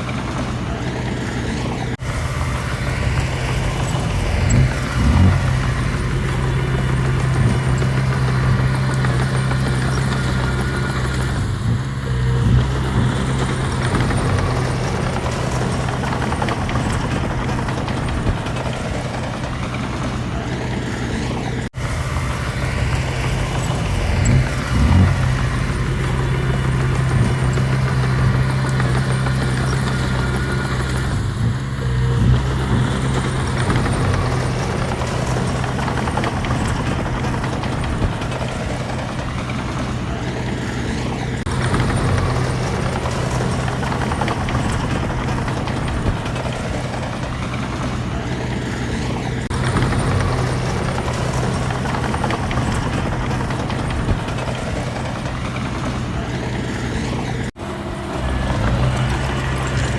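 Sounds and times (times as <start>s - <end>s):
heavy machinery engine droning: 0.0s - 59.9s.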